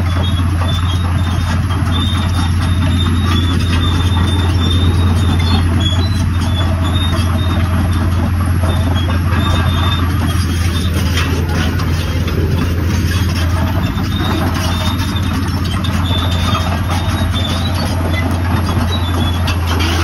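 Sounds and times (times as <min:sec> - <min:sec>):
excavator diesel engine droning: 0:00.0 - 0:20.0
faint high squeaks: 0:00.1 - 0:20.0.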